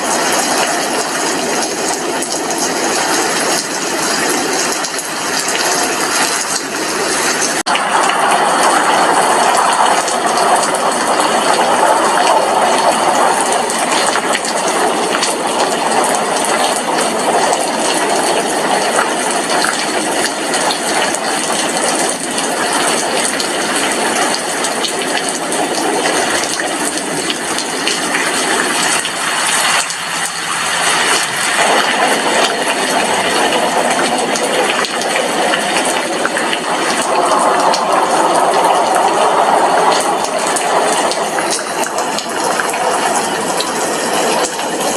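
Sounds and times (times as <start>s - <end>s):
heavy rain on a window: 0.0s - 44.9s.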